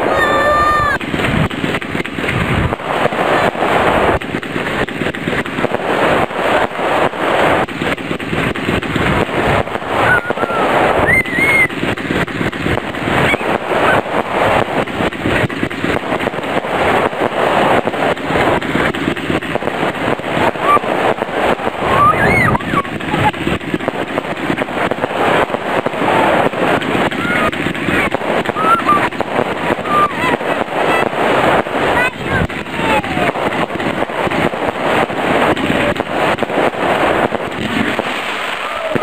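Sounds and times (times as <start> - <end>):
fireworks banging and crackling: 0.0 - 39.0.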